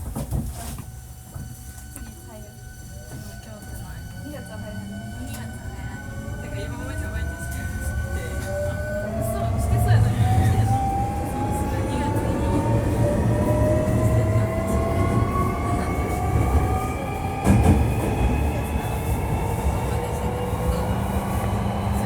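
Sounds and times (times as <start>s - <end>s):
train running gear rumble: 0.0s - 22.0s
train motors whining: 3.2s - 22.0s.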